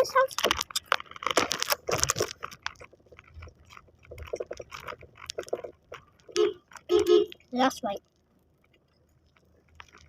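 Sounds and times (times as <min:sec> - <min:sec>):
person chewing bread: 0:00.4 - 0:07.4, 0:08.2 - 0:10.0.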